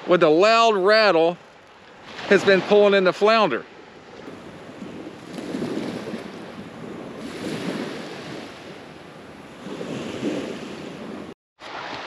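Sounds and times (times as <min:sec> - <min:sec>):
surf washing up beach: 0:00.0 - 0:12.0.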